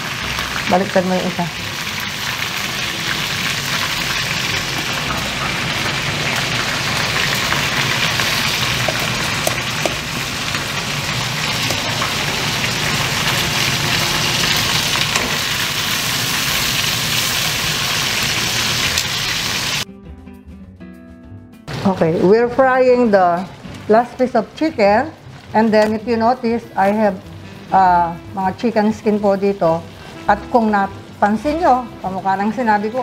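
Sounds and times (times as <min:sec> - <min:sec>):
chicken sizzling in hot oil: 0:00.0 - 0:19.8, 0:23.4 - 0:33.0.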